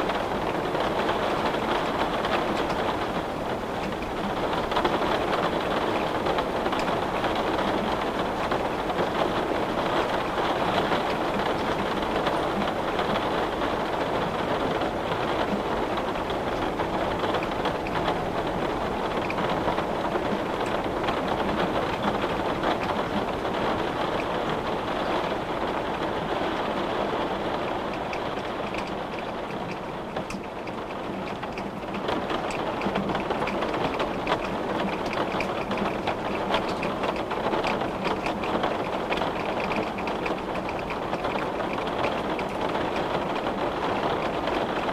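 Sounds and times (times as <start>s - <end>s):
rain on a window: 0.0s - 44.9s
raindrops ticking: 0.0s - 44.9s.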